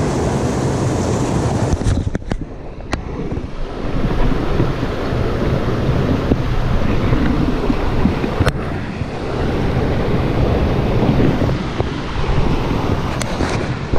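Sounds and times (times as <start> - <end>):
stream rushing over stones: 0.0 - 13.9
wind rumbling on microphone: 0.0 - 13.9.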